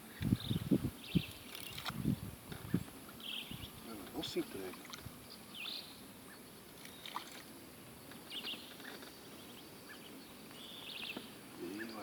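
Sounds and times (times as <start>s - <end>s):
birds chirping: 0.0s - 12.0s
low steady hiss: 0.0s - 12.0s.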